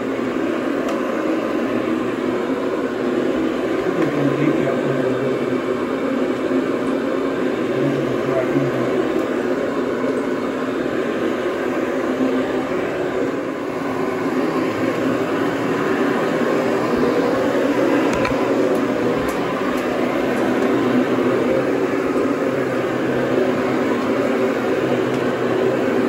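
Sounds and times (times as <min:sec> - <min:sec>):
cleaning machine motor droning: 0:00.0 - 0:26.0.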